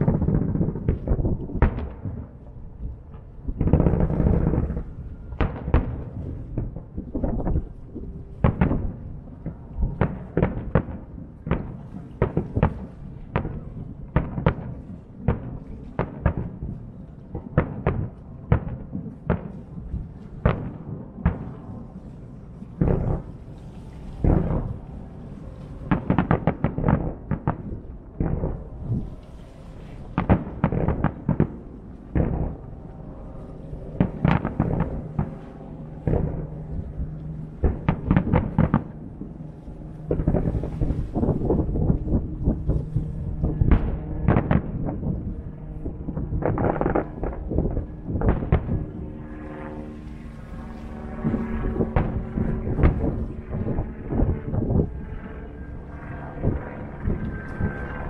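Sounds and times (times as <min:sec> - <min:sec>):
fireworks booming and banging: 0:00.0 - 0:21.8, 0:22.7 - 0:23.5, 0:24.2 - 0:24.8, 0:25.8 - 0:29.1, 0:30.0 - 0:32.7, 0:33.8 - 0:39.4, 0:40.0 - 0:49.0, 0:51.2 - 0:54.9.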